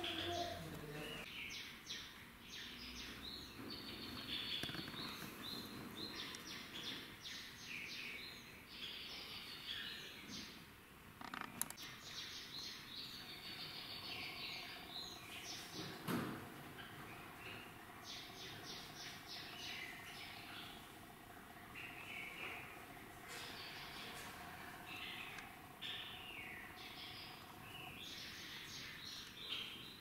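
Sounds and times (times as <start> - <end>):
cage birds chirping: 0.0 - 30.0.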